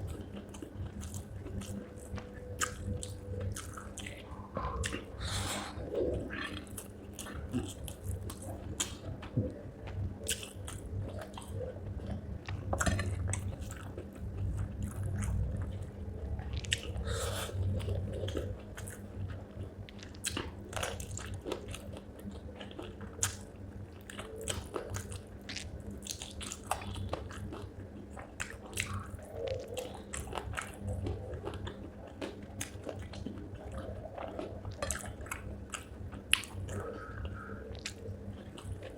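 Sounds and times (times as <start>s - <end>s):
chewing and crunching bones: 0.0s - 38.9s
low steady hum: 0.0s - 38.9s.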